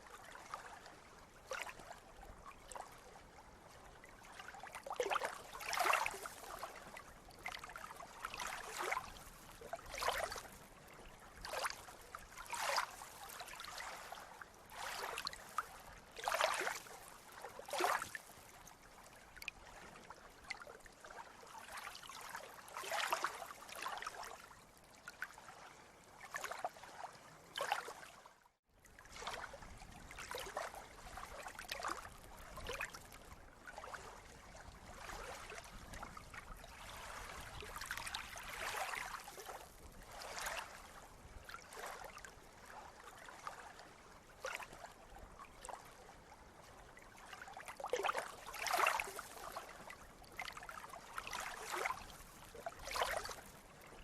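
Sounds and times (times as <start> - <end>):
sea water lapping and splashing: 0.0 - 54.0.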